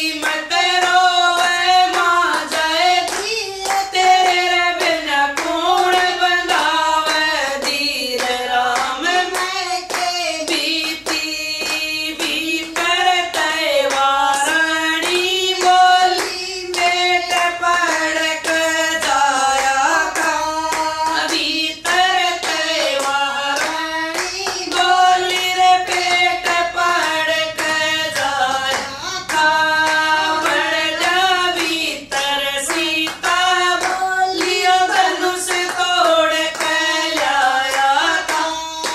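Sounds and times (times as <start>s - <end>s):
rhythmic hand claps: 0.0s - 38.9s
women singing together: 0.0s - 38.9s.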